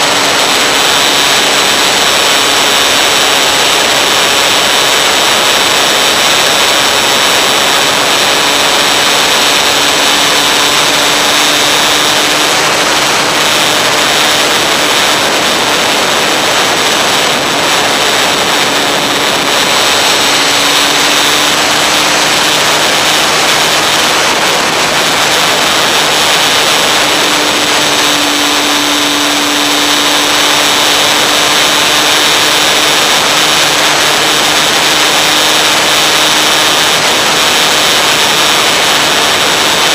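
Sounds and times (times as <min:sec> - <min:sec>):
air rushing: 0:00.0 - 0:39.9.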